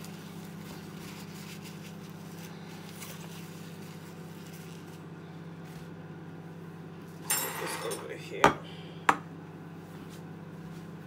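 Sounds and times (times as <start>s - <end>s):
appliance motor hum: 0.0s - 11.0s.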